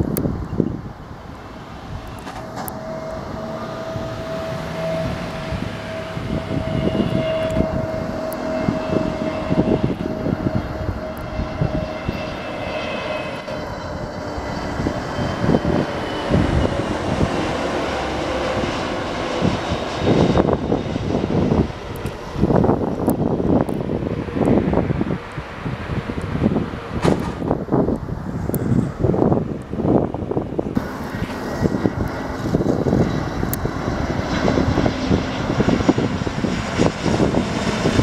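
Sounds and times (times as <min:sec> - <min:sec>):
deep jet rumble: 0:00.0 - 0:38.0
jet engine whine: 0:00.0 - 0:38.0
wind buffeting microphone: 0:00.0 - 0:38.0.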